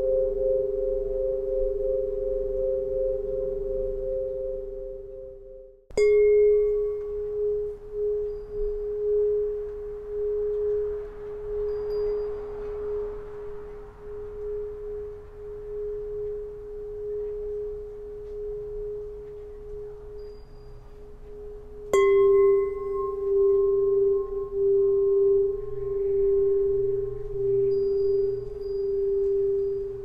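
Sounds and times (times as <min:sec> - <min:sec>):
tuning pipe ringing: 0:00.0 - 0:30.0.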